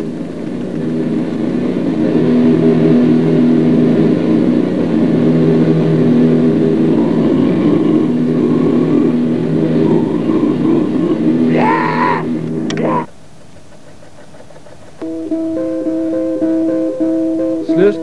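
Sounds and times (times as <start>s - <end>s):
distorted noise music drone: 0.0s - 13.2s, 15.0s - 18.0s.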